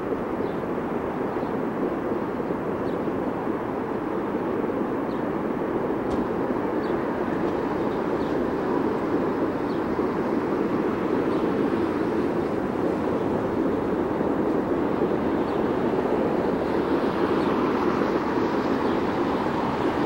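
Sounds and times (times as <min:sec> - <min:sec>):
distant city traffic hum: 0:00.0 - 0:20.0.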